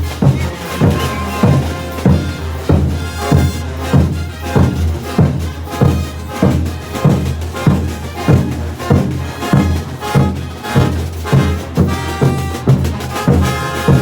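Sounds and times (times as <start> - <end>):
bass drum striking: 0.0 - 14.0
brass band playing: 0.0 - 14.0.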